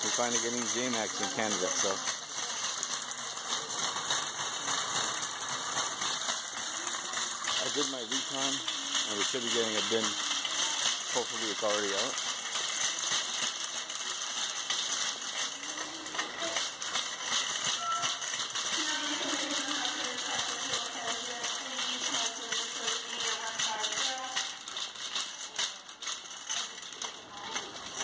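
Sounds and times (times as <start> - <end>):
shopping cart rattling: 0.0 - 28.0.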